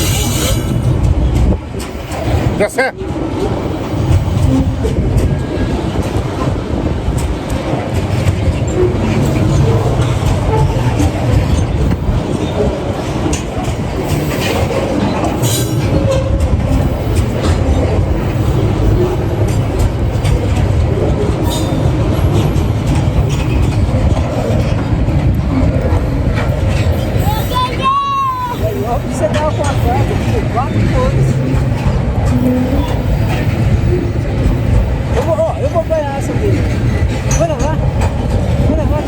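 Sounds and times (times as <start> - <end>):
freight train rumbling: 0.0 - 39.0
wheel clatter over rail joints: 0.0 - 39.0.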